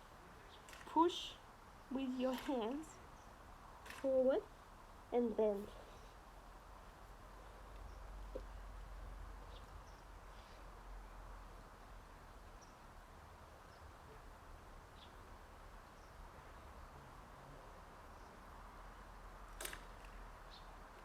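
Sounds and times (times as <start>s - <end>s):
faint hiss: 0.0s - 20.9s.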